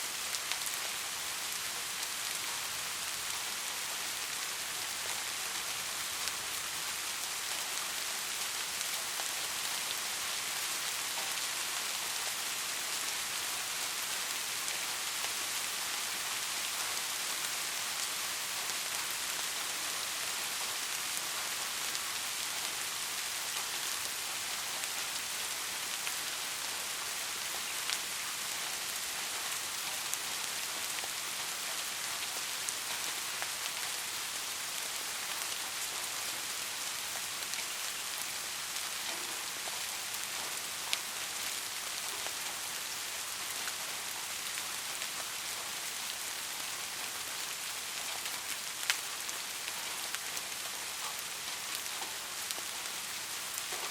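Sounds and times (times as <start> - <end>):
rain falling on foliage: 0.0 - 53.9.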